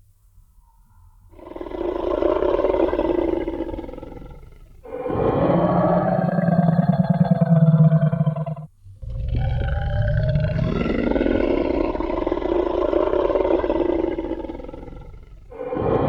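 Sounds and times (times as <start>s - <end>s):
dinosaur roar: 1.4s - 16.0s.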